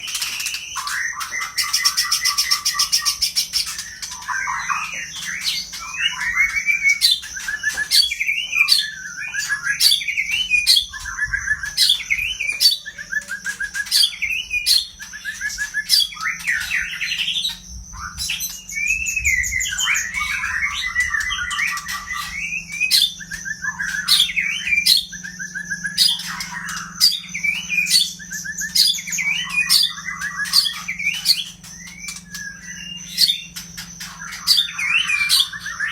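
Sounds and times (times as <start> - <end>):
bird singing varied song: 0.0 - 35.9.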